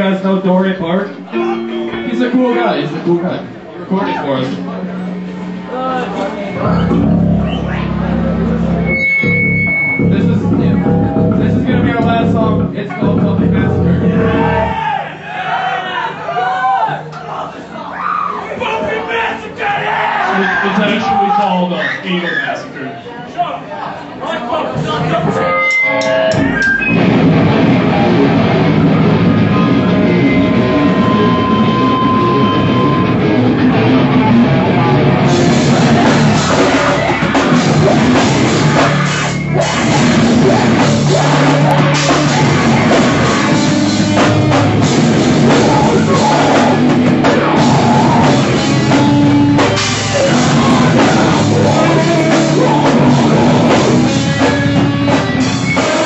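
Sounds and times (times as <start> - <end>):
rock band playing loud: 1.1 - 15.0, 24.8 - 56.0.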